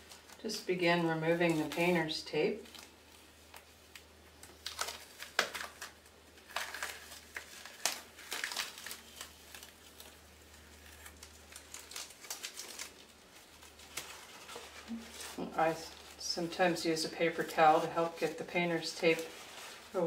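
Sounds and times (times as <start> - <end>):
tape peeling and crinkling: 0.0 - 0.5, 1.3 - 20.0.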